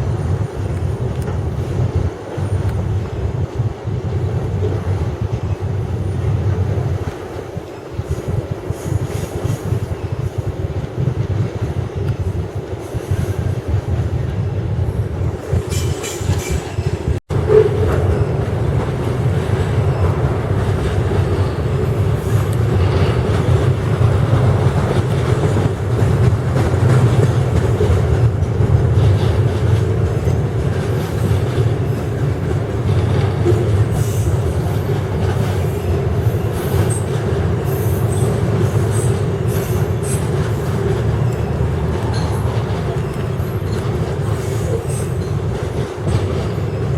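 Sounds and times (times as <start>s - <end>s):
railway wagons rumbling on rails: 0.0s - 46.9s.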